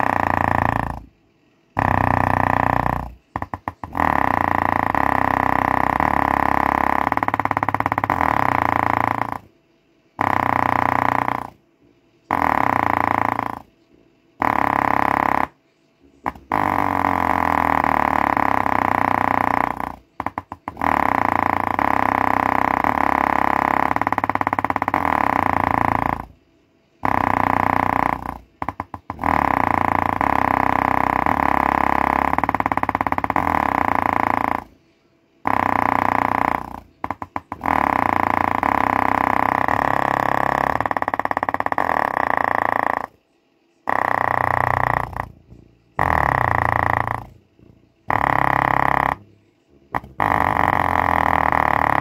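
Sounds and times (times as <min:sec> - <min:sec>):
buzzing bass from speaker: 0:00.0 - 0:52.0.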